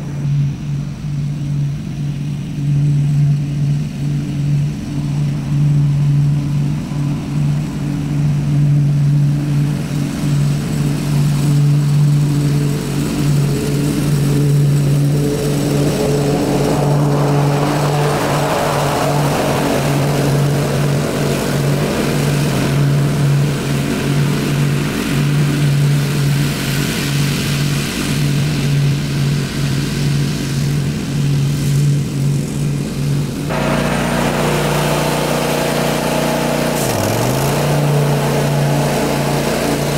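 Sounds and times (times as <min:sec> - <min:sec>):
riding mower engine drone: 0:00.0 - 0:39.9.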